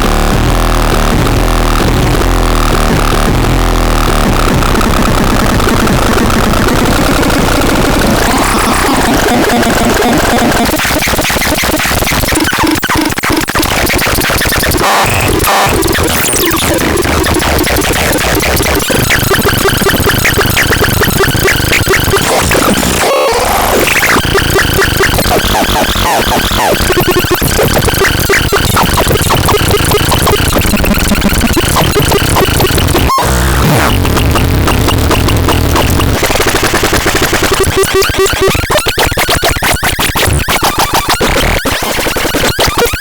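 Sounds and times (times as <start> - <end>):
harsh glitchy synthesizer noise: 0.0 - 43.0.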